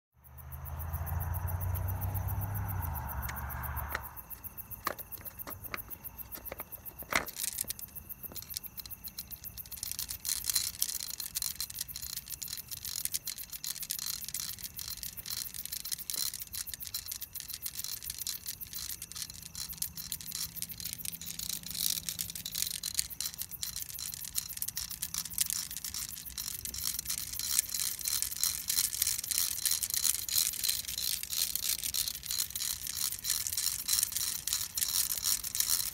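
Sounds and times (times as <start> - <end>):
beads rattling over pipe rim: 3.1 - 35.9.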